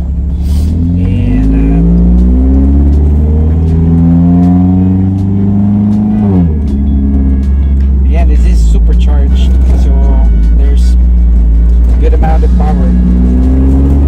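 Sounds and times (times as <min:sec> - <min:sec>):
car engine accelerating hard: 0:00.0 - 0:14.0
road and wind rumble: 0:00.0 - 0:14.0.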